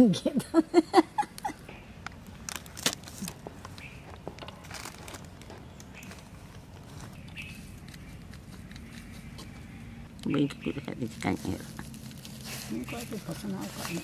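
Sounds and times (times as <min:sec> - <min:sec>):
dried chilli crackling: 0:01.3 - 0:14.0
faint crinkling: 0:01.4 - 0:10.2, 0:11.0 - 0:14.0.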